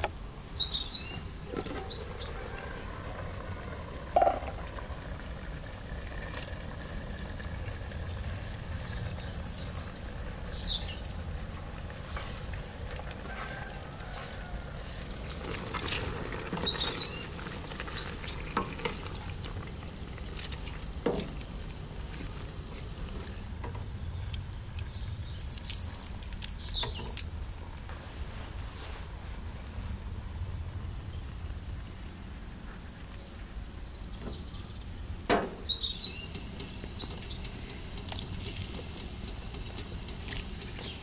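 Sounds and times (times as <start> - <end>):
small birds chirping: 0.0 - 3.2, 4.0 - 27.7, 28.4 - 41.0.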